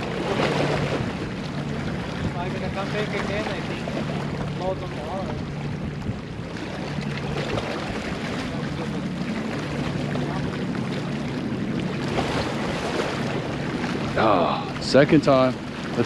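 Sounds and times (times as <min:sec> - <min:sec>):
low motor hum: 0:00.0 - 0:16.0
water noise: 0:00.0 - 0:16.0
wind: 0:00.0 - 0:16.0.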